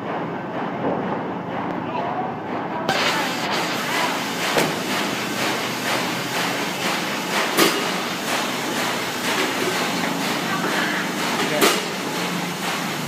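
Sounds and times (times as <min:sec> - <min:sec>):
machinery clattering: 0:00.0 - 0:13.0.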